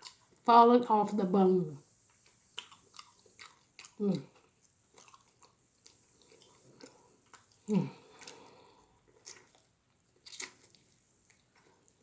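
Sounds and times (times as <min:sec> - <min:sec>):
chewing meat close up: 0:00.0 - 0:00.6, 0:02.1 - 0:12.0
wet mouth noises: 0:02.1 - 0:12.0.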